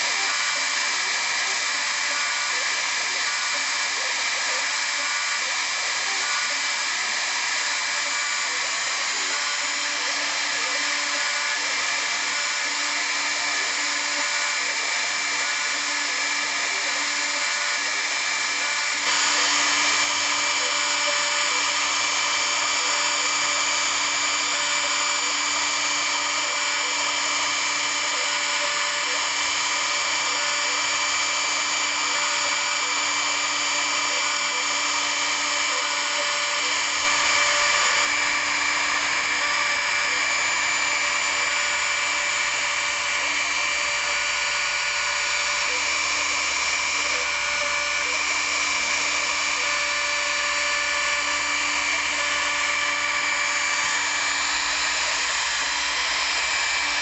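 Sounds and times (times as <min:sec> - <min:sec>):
router spindle whining while milling wood: 0:00.0 - 0:57.0.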